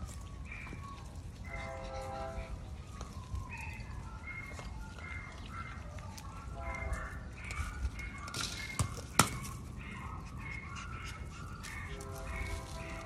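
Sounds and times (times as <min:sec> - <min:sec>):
puppies whining and yelping: 0:00.0 - 0:13.0.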